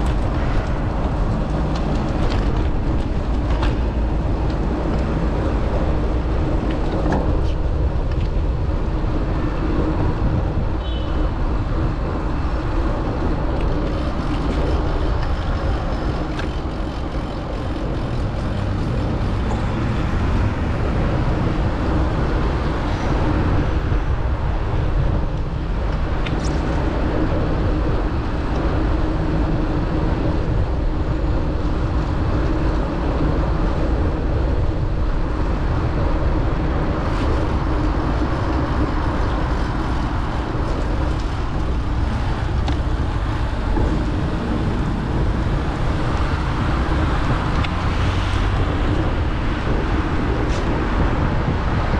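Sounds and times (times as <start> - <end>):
traffic rumble: 0.0 - 51.9
wind buffeting microphone: 0.0 - 51.9.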